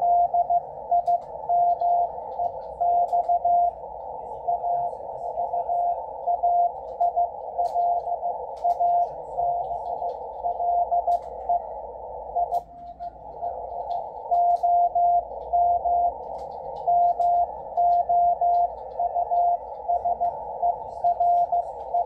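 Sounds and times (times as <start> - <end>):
morse code tone: 0.0 - 12.9, 13.5 - 22.0
receiver hiss: 0.0 - 22.0.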